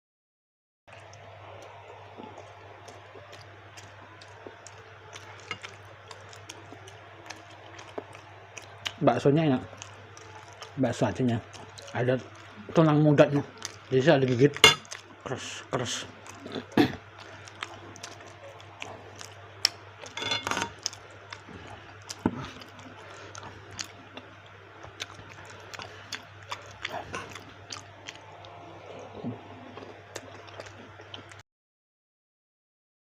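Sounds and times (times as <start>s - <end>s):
chewing and crunching mouth sounds: 0.9s - 31.4s
steady low hum: 0.9s - 31.4s.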